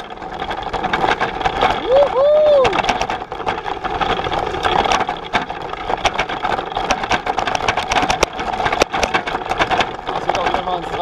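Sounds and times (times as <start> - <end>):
cargo bike rattling: 0.0 - 11.0
frame knocking over bumps: 0.0 - 11.0.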